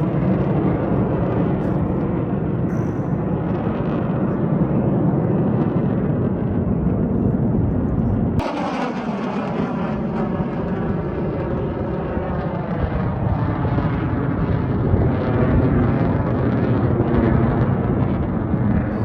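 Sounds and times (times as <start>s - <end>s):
jet roar with falling sweeping tone: 0.0s - 19.0s
military jet roaring past: 0.0s - 19.0s.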